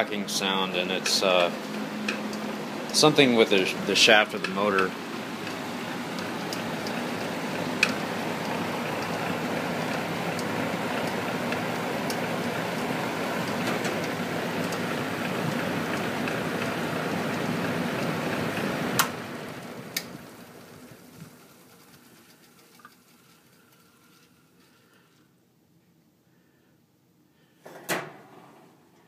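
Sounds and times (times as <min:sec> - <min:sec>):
exhaust fan rough rattle: 0:00.0 - 0:24.8.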